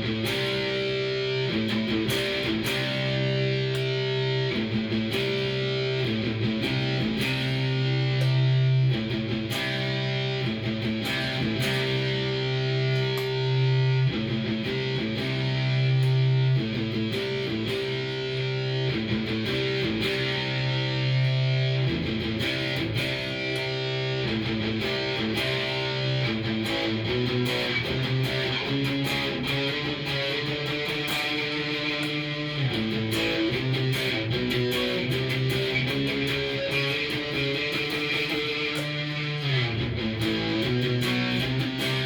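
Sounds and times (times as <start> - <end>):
electric guitar chords: 0.0 - 42.0.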